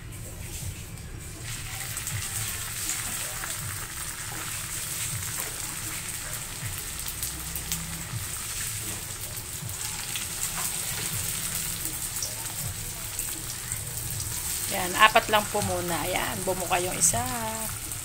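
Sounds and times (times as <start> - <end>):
food sizzling in hot oil: 1.4 - 18.0
oil crackling and popping: 1.4 - 18.0.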